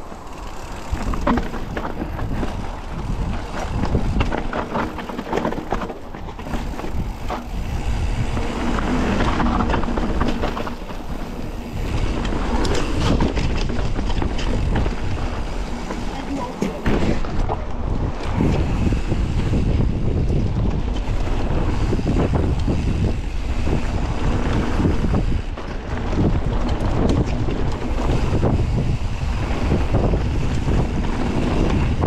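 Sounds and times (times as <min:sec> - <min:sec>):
bike rattling and clicking: 0:00.0 - 0:32.0
bike tyres rolling on dirt: 0:00.0 - 0:32.0
wind rumbling on microphone: 0:00.0 - 0:32.0.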